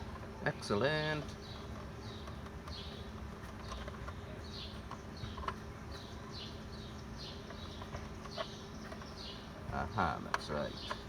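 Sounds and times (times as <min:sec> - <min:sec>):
bird chirping: 0:01.2 - 0:11.0.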